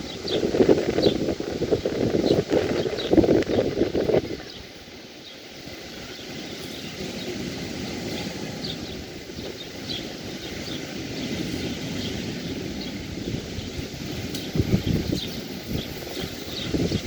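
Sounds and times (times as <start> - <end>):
sea surf rushing on beach: 0.0 - 17.0.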